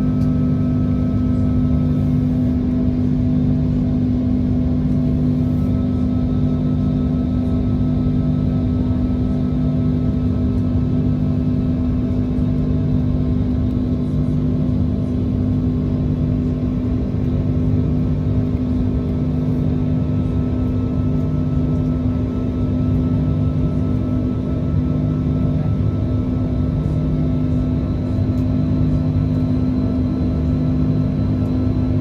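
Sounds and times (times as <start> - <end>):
jet engine cabin drone: 0.0 - 32.0.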